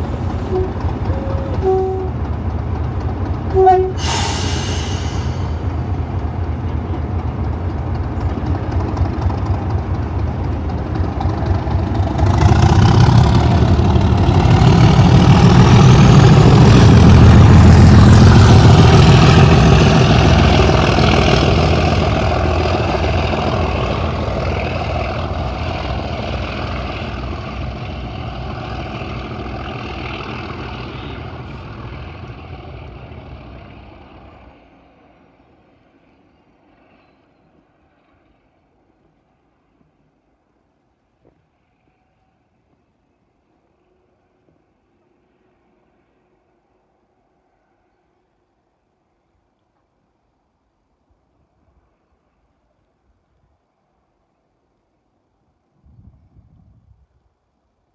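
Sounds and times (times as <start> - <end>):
diesel locomotive engines working hard: 0.0 - 52.8.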